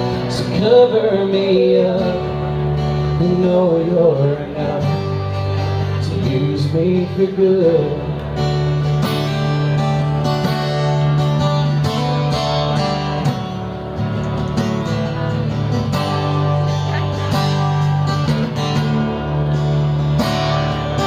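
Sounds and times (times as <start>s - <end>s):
live country band: 0.0s - 21.0s
strummed acoustic guitar: 0.0s - 21.0s
sustained bass: 0.0s - 21.0s.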